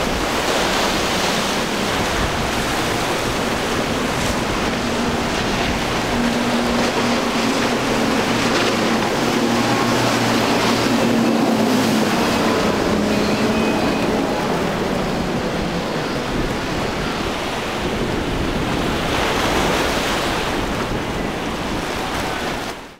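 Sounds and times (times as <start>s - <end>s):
outboard engines droning: 0.0s - 22.9s
water rushing and churning: 0.0s - 22.9s
wind buffeting microphone: 0.0s - 22.9s.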